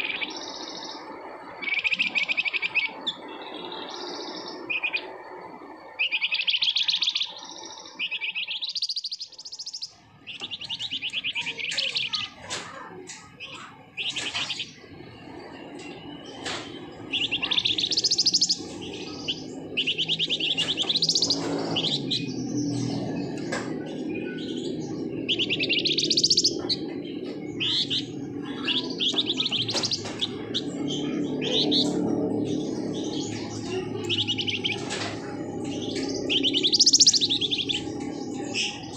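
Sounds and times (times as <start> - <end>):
songbird rattling trills: 0.0 - 38.9.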